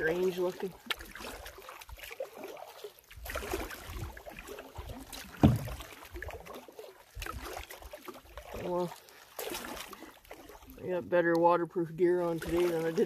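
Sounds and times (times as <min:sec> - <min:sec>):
water dripping off paddle: 0:00.0 - 0:11.6
paddle strokes in water: 0:00.0 - 0:13.0.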